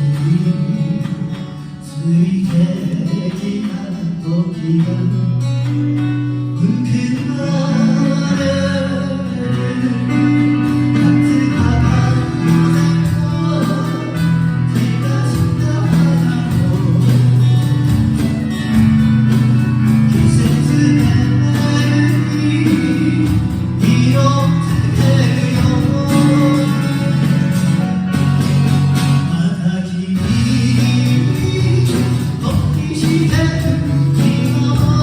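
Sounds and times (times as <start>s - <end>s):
acoustic guitar playing: 0.0s - 35.0s
person singing: 6.6s - 35.0s.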